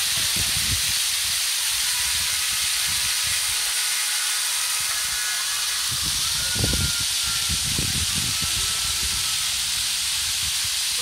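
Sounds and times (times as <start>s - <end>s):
fountain spray hissing: 0.0s - 11.0s.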